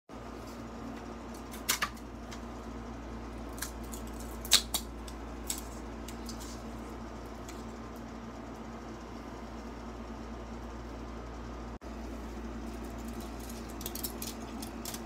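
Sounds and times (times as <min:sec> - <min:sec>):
steady hum: 0:00.1 - 0:15.0.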